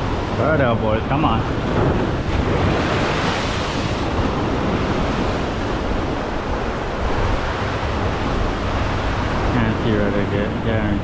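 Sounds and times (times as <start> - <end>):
surf breaking on rocks: 0.0 - 10.0
wind buffeting microphone: 0.0 - 11.0.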